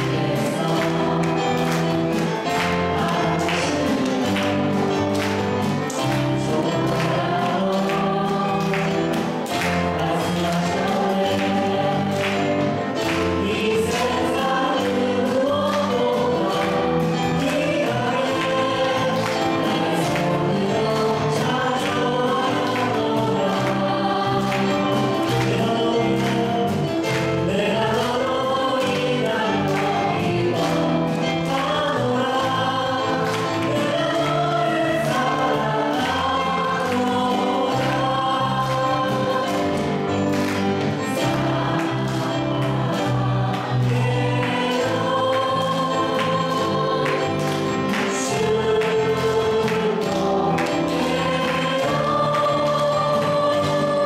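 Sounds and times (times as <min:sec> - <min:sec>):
women and man singing together: 0:00.0 - 0:05.2, 0:05.9 - 0:54.0
instrumental accompaniment with beat: 0:00.0 - 0:54.0.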